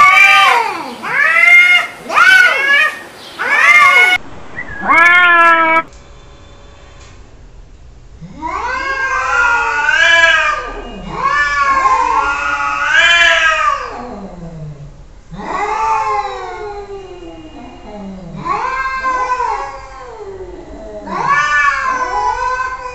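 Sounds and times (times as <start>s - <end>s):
cats yowling: 0.0s - 4.2s, 4.8s - 5.9s, 8.2s - 22.9s.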